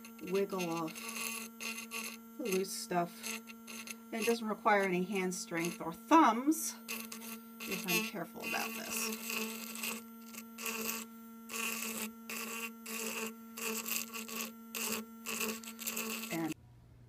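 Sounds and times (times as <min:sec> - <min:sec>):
steel tip scraping gritty sand: 0:00.0 - 0:06.3, 0:06.9 - 0:16.6
electric scraper buzzing: 0:00.0 - 0:16.6.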